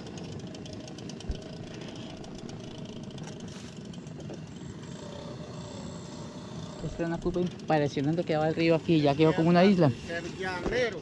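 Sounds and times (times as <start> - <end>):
boat motor chugging: 0.0 - 11.0.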